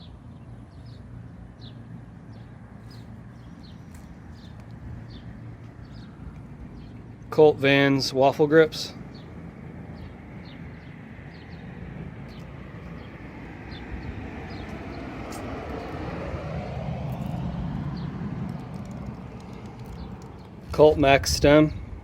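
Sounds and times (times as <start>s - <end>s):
motor vehicle passing by: 0.8s - 7.3s, 8.8s - 22.0s.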